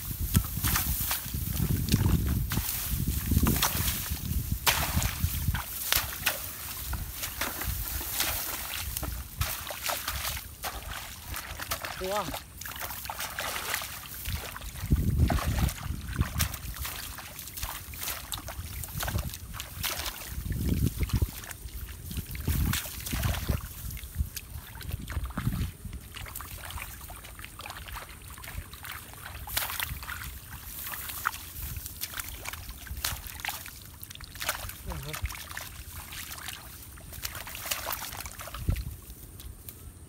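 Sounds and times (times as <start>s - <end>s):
hands splashing in muddy water: 0.0s - 39.0s.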